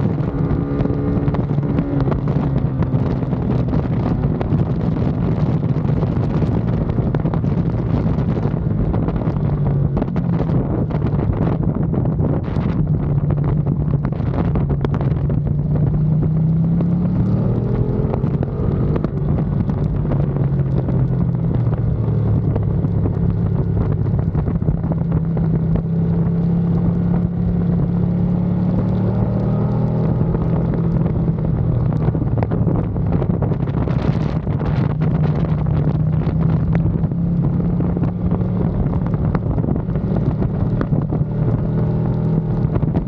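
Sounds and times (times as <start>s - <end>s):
motorcycle engine running hard: 0.0s - 43.0s
wind rushing over microphone: 0.0s - 43.0s.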